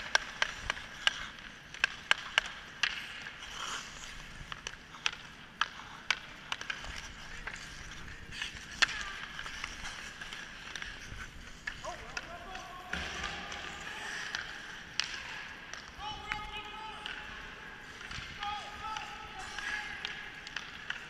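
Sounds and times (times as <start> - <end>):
hockey sticks clacking: 0.0 - 21.0
skate blades scraping ice: 0.0 - 21.0.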